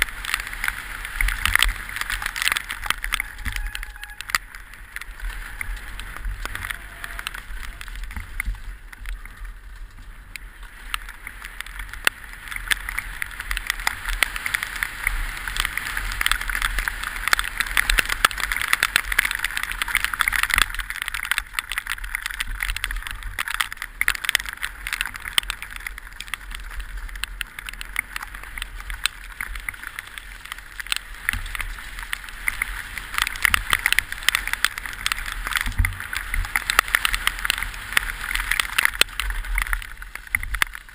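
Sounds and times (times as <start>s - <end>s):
mountain bike rattling: 0.0s - 40.9s.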